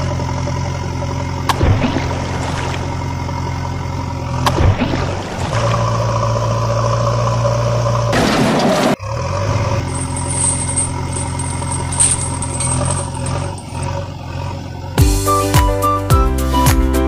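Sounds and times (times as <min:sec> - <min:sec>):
tractor engine idling: 0:00.0 - 0:16.2.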